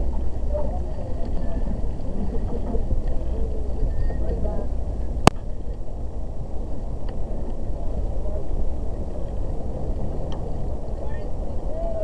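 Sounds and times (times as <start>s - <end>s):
water rushing along hull: 0.0s - 12.0s
wind rumbling on microphone: 0.0s - 12.0s.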